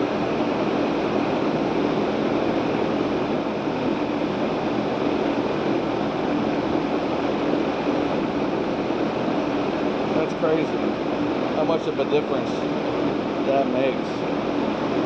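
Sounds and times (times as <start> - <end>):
air conditioner fan rushing: 0.0 - 15.0.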